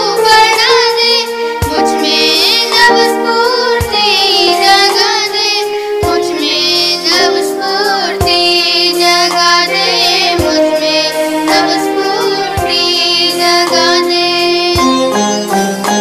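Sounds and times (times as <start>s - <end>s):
girl singing with vibrato: 0.0s - 15.2s.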